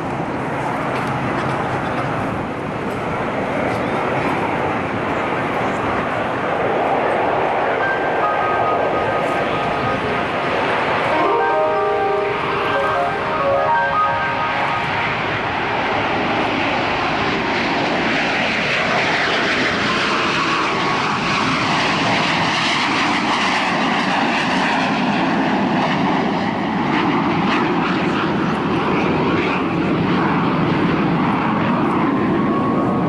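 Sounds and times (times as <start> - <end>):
jet engine noise: 0.0 - 33.0.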